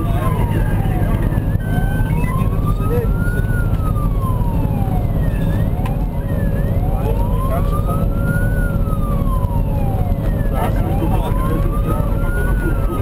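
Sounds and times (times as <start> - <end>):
engine rumble and road noise: 0.0 - 13.0
fire engine wail siren: 0.0 - 13.0.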